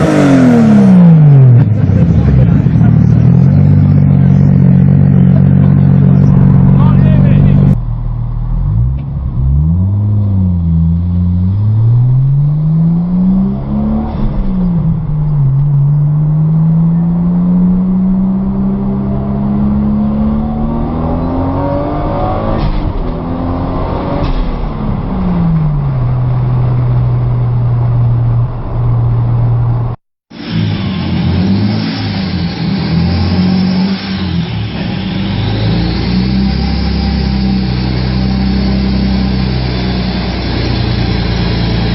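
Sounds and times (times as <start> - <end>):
car engine revving and idling: 0.0 - 41.9.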